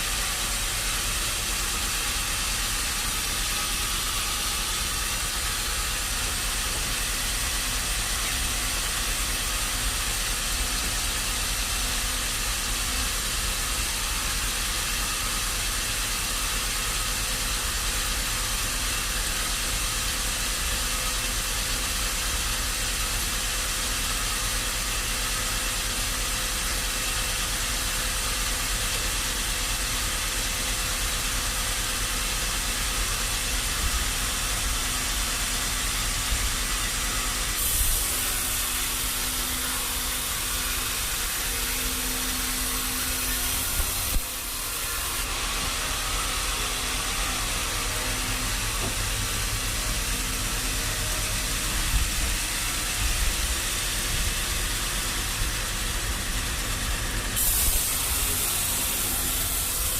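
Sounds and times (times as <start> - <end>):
steady machine hiss and hum: 0.0 - 59.9.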